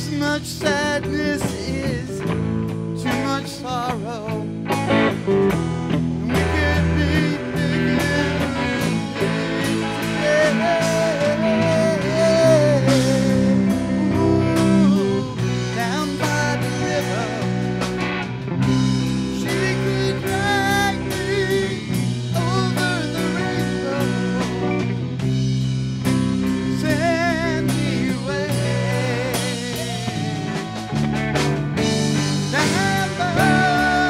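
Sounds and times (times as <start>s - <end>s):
bass guitar: 0.0s - 34.0s
drums: 0.0s - 34.0s
guitar bending notes: 0.0s - 34.0s.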